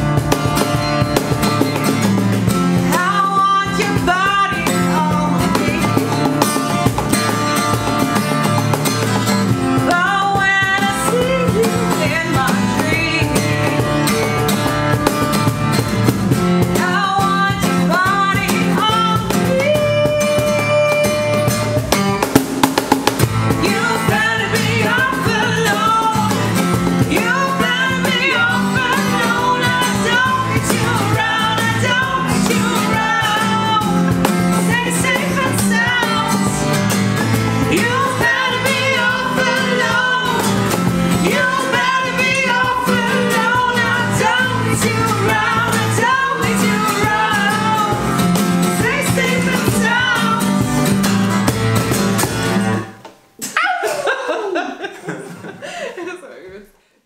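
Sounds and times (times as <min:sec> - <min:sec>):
woman singing: 0:00.0 - 0:07.7, 0:09.6 - 0:15.2, 0:16.5 - 0:22.3, 0:23.5 - 0:51.0
strummed acoustic guitar: 0:00.0 - 0:53.5
cajon beat: 0:00.0 - 0:54.1.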